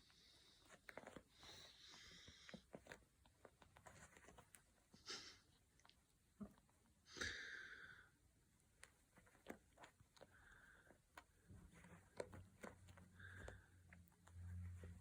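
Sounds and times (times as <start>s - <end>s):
soft rustle: 0.0s - 7.0s, 8.4s - 15.0s.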